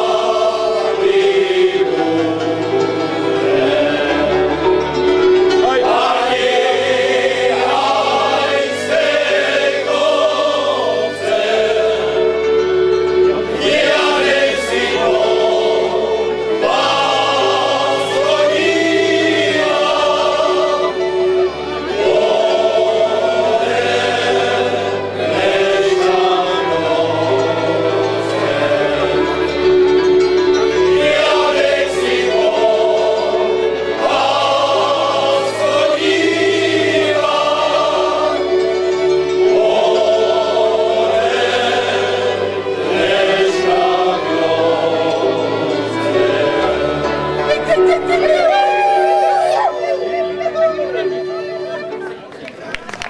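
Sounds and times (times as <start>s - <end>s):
men's choir singing in harmony: 0.0s - 52.2s
fiddle: 0.0s - 53.0s.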